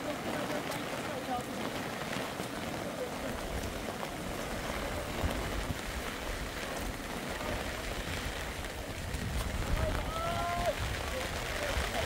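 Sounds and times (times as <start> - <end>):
flood stream running: 0.0 - 12.0
rain: 0.0 - 12.0.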